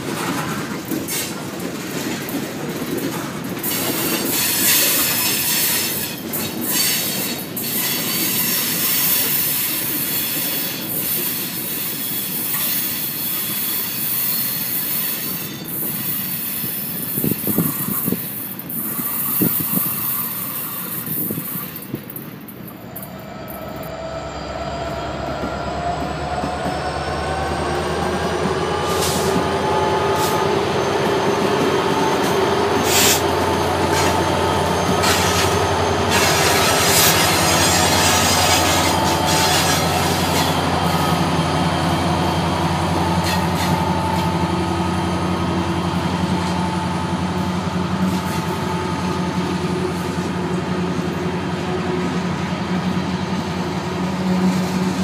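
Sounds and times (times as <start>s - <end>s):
diesel locomotive engine drone: 0.0s - 55.0s
train wheels squealing: 3.6s - 22.0s, 22.7s - 50.4s.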